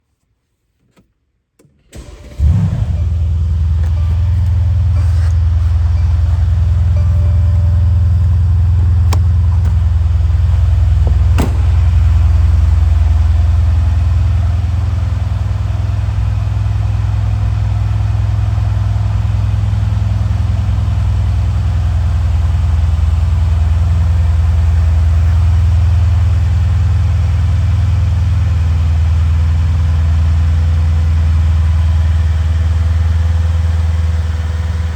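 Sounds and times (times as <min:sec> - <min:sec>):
car engine starting and idling: 0:01.6 - 0:34.9.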